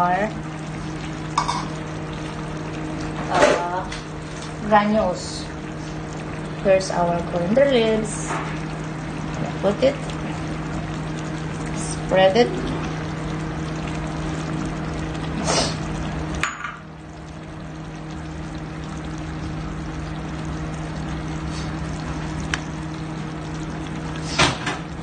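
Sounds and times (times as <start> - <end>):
curry simmering hiss: 0.0 - 25.0.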